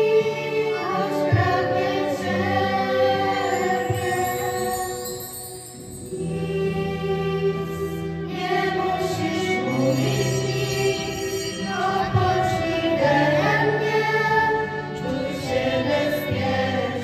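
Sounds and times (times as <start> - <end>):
choir of women and girls singing: 0.0 - 17.0
guitar: 0.0 - 17.0
violin: 0.0 - 17.0.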